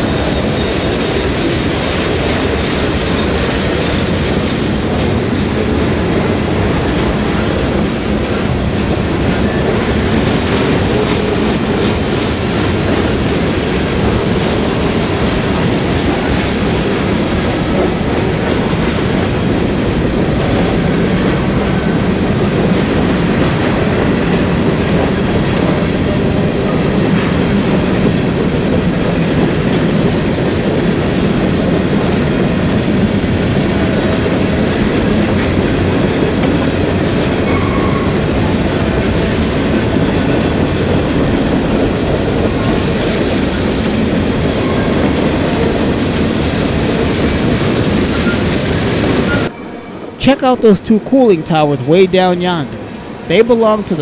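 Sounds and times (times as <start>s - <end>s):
freight train cars rolling: 0.0s - 54.0s.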